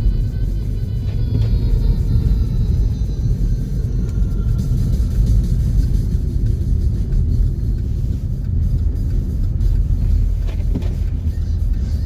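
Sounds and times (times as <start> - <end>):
vehicle engine and tyre rumble: 0.0 - 12.0.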